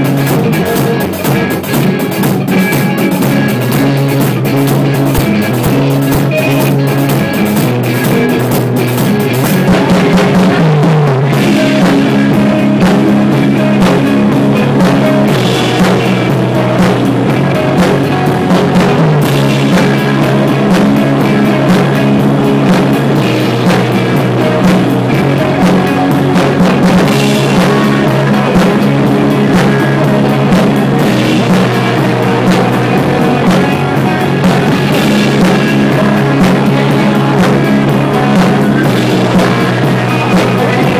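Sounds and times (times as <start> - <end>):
drums and cymbals: 0.0 - 40.9
rock band playing: 0.0 - 40.9.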